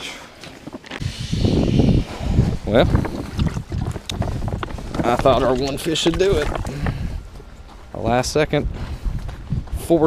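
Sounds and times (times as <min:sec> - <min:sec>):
wind buffeting microphone: 0:00.9 - 0:10.0.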